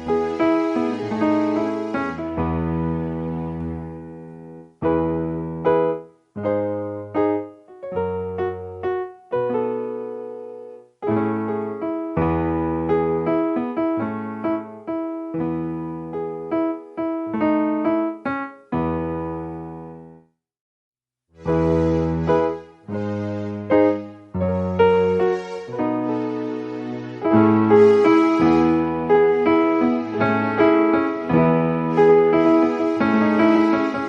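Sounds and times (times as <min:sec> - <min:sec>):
electric piano chords: 0:00.0 - 0:20.3, 0:21.4 - 0:34.0.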